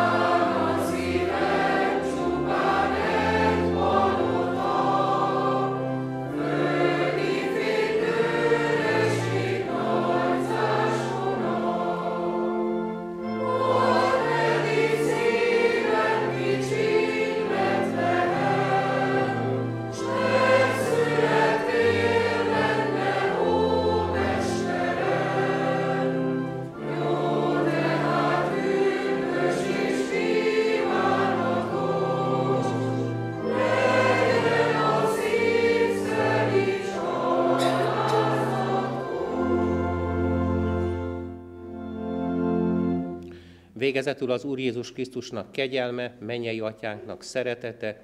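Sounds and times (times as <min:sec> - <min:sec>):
choir singing a hymn: 0:00.0 - 0:43.2.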